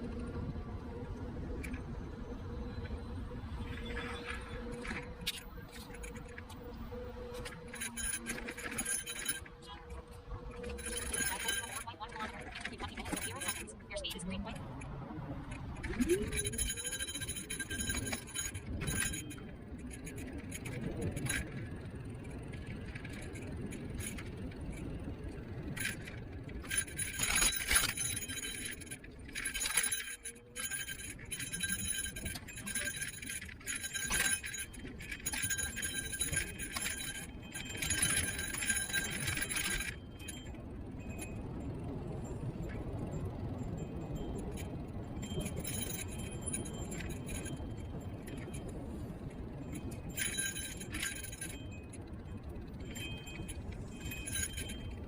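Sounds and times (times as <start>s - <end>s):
wind and road rumble: 0.0s - 55.0s
metallic jingling rattle: 3.6s - 14.3s, 15.8s - 55.0s.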